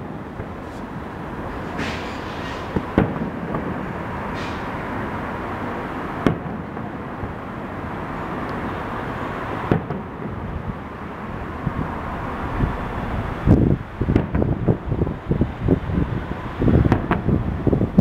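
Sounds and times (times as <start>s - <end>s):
fireworks bursting: 0.0s - 11.6s, 14.0s - 14.8s, 15.4s - 18.0s
rushing background noise: 0.0s - 18.0s.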